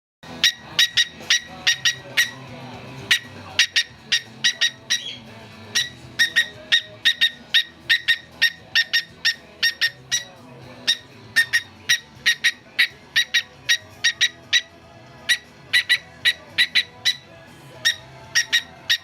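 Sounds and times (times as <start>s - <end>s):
faint background music: 0.2s - 19.0s
cockatiel chirping: 0.3s - 2.4s, 3.1s - 14.7s, 15.3s - 19.0s.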